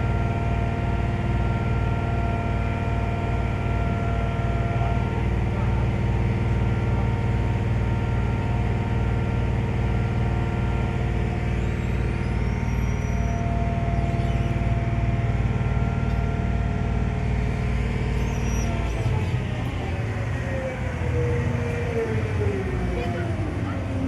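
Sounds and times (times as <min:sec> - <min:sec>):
ferry engine humming: 0:00.0 - 0:24.0.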